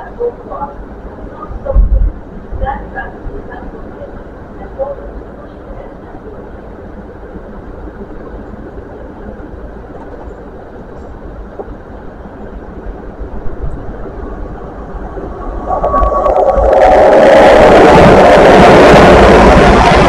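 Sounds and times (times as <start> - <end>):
steady whine: 0.0 - 20.0
train rumble: 0.0 - 20.0.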